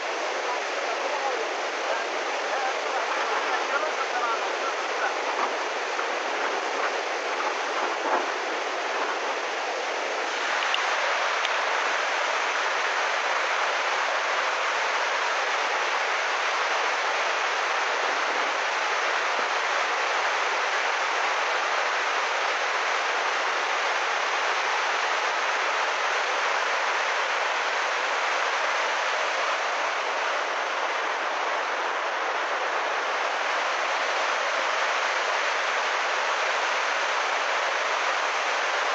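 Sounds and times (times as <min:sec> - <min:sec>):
muddy water rushing: 0:00.0 - 0:38.9.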